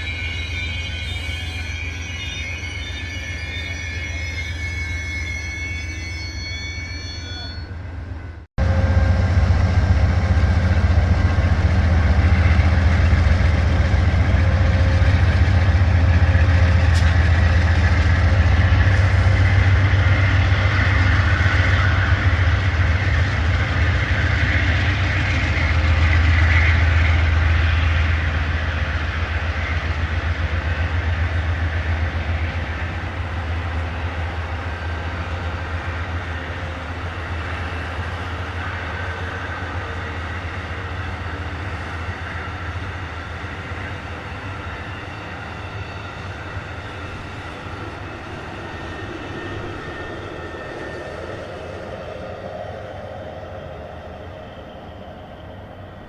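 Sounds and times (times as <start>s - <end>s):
rail and wheel noise: 0.0s - 56.0s
diesel locomotive rumble: 7.7s - 56.0s.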